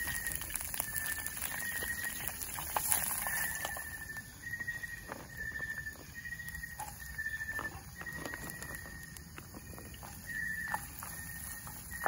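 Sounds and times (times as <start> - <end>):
insect trilling: 0.0 - 12.0
onion and garlic sizzling in oil: 0.0 - 12.0.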